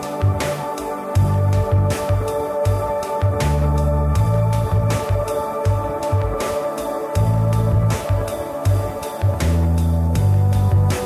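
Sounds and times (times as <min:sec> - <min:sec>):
held synth chords: 0:00.0 - 0:11.0
pulsing bass line: 0:01.2 - 0:06.4, 0:07.2 - 0:11.0.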